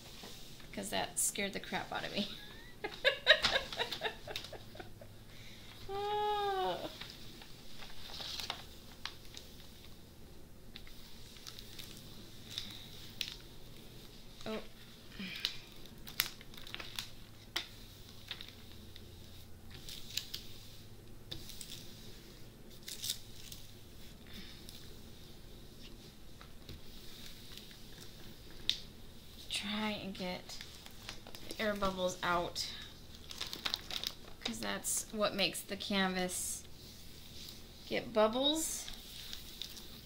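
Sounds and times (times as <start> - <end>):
plastic sheet crinkling: 1.6 - 5.0, 5.8 - 10.0, 10.7 - 35.1, 35.8 - 40.0.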